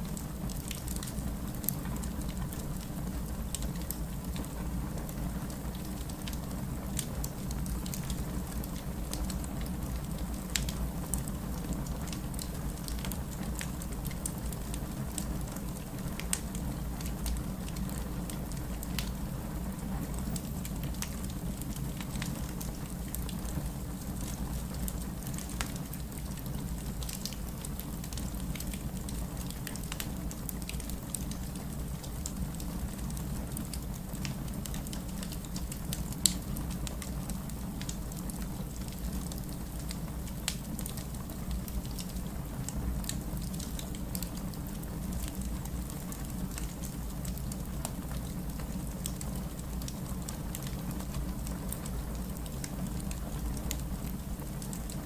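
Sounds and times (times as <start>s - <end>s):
low fire rumble: 0.0s - 55.0s
wood fire crackling: 0.0s - 55.0s
fire popping: 0.2s - 55.0s.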